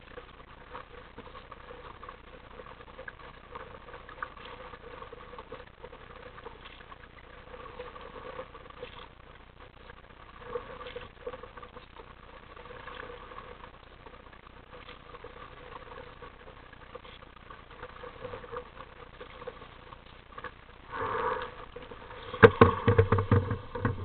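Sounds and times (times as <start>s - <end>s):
light water splashes: 0.0s - 24.0s
waves lapping against kayak hull: 0.0s - 24.0s.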